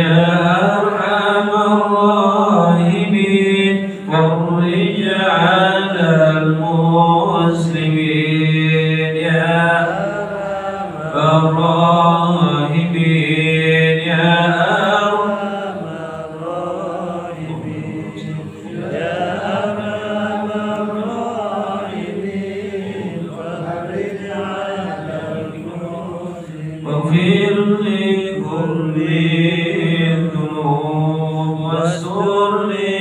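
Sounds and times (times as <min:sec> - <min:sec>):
congregation chanting a prayer: 0:00.0 - 0:33.0.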